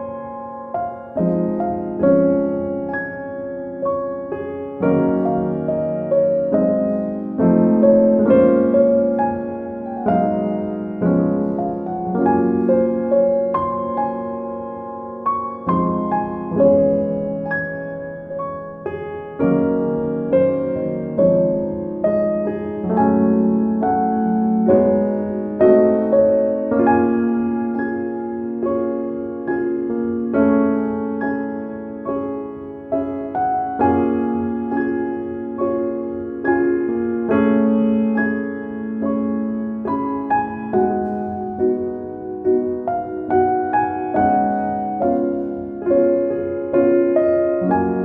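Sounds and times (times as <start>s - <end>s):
slow gentle piano music: 0.0s - 48.0s.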